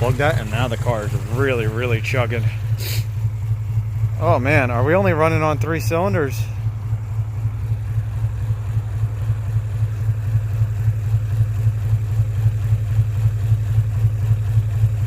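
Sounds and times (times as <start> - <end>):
car engine idling rough: 0.0 - 15.0.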